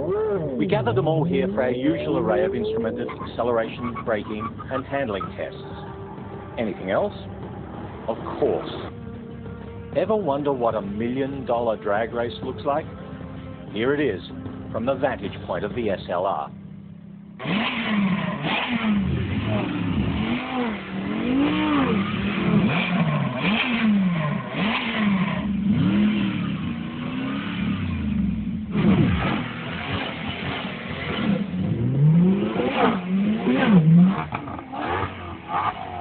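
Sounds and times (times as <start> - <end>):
supercar engines revving: 0.0 - 36.0.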